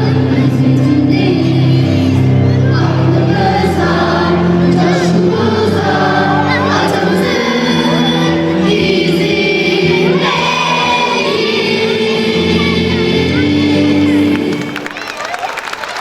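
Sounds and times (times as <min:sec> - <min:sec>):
choir singing: 0:00.0 - 0:14.8
musical accompaniment: 0:00.0 - 0:16.0.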